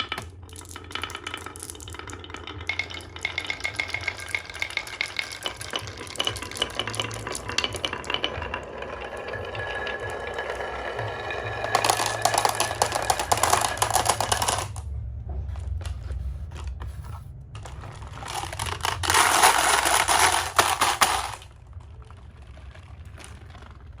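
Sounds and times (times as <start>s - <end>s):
marbles clattering down wooden run: 0.0s - 14.8s, 17.6s - 24.0s.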